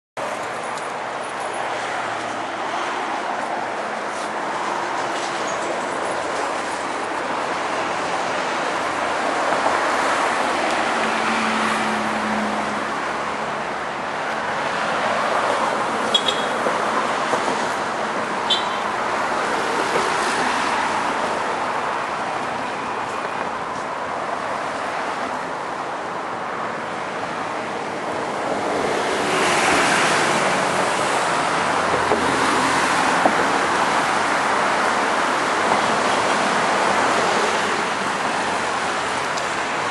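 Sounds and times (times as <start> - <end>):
road traffic passing: 0.2 - 39.9.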